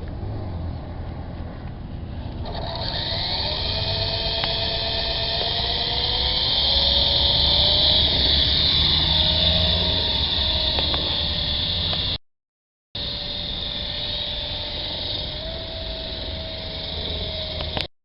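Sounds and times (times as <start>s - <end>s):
model helicopter rotors whining: 2.0s - 12.2s, 13.0s - 17.9s.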